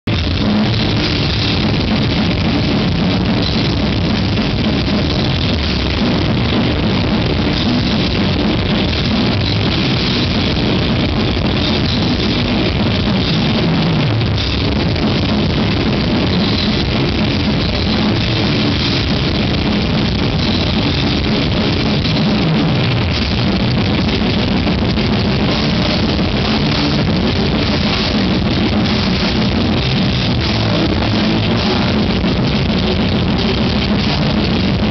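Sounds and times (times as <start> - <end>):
distorted electric guitars: 0.0 - 34.9
drum kit: 0.0 - 34.9.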